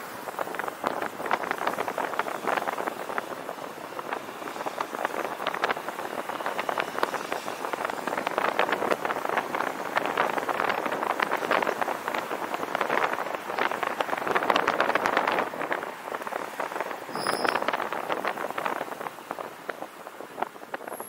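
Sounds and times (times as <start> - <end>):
road and traffic noise: 0.0 - 21.0
wind buffeting microphone: 0.0 - 21.0.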